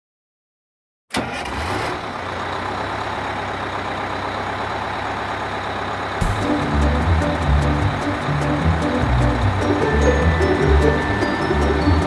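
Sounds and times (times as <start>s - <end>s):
vehicle engine running: 1.9s - 12.0s.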